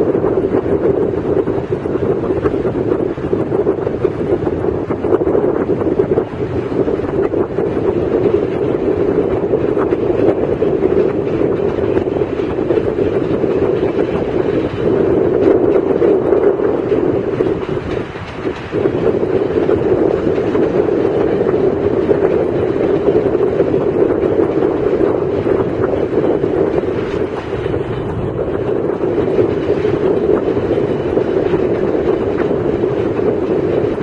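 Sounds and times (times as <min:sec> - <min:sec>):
train running on rails: 0:00.0 - 0:34.0.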